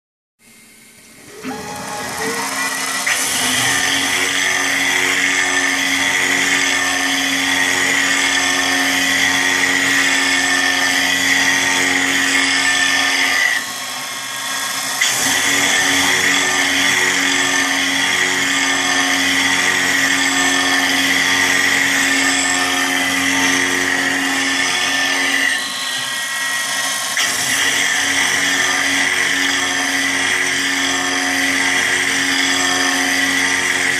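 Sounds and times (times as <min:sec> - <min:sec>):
mill spindle whining while cutting plastic: 0:00.6 - 0:33.9.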